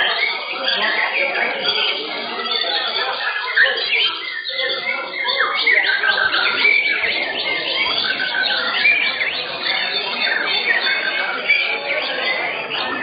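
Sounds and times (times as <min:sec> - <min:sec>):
songbirds singing in chorus: 0:00.0 - 0:13.0.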